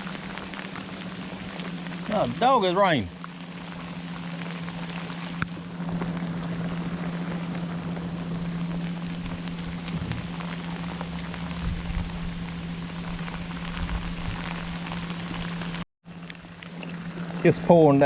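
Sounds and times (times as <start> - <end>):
heavy rain pouring: 0.0 - 15.8
steady low hum: 0.0 - 17.9.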